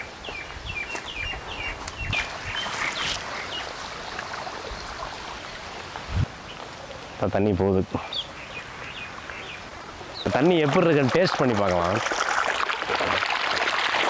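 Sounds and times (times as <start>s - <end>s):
water rushing along a channel: 1.1s - 14.0s.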